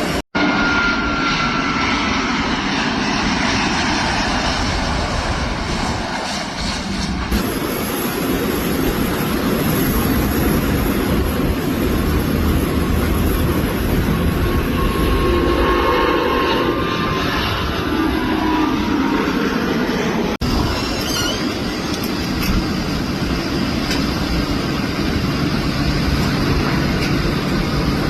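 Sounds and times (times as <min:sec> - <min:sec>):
propeller aircraft engine drone: 0:00.0 - 0:28.0.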